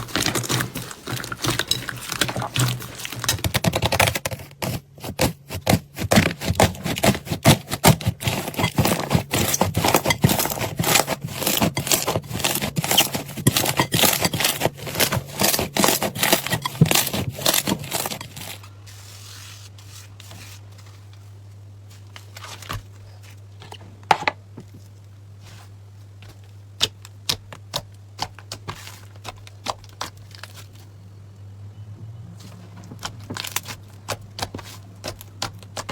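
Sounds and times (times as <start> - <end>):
low steady hum: 0.0 - 35.9.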